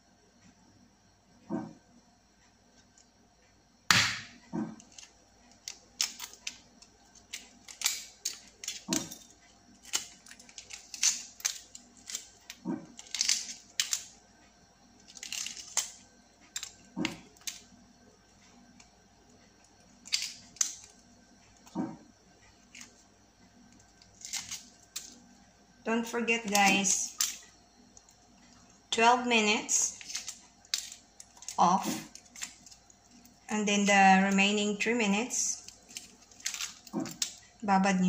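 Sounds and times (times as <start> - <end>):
egg shell crackling and crunching: 3.9 - 17.8, 18.6 - 28.9, 29.7 - 37.6.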